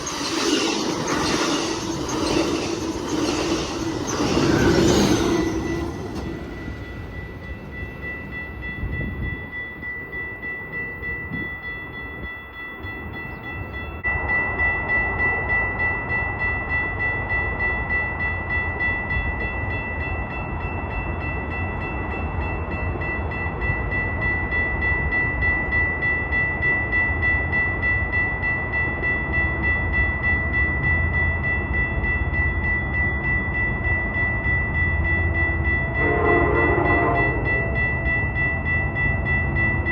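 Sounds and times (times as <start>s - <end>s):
bell ringing: 0.0s - 39.9s
train rumbling: 0.0s - 39.9s.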